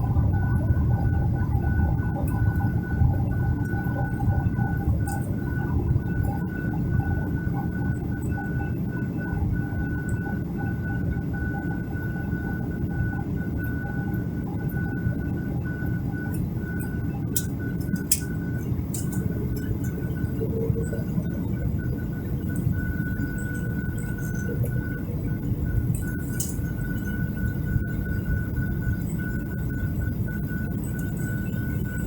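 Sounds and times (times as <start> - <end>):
high pulsing whine: 0.0 - 32.0
jet engines and airflow rumble: 0.0 - 32.0.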